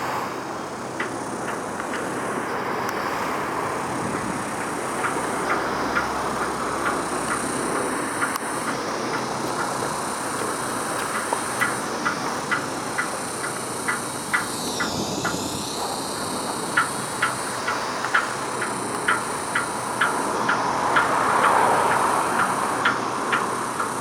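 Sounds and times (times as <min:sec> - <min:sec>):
traffic rumble on bridge: 0:00.0 - 0:24.0.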